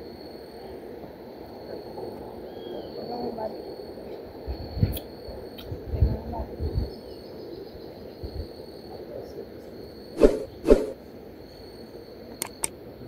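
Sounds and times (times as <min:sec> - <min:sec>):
outdoor ambience: 0:00.0 - 0:13.0.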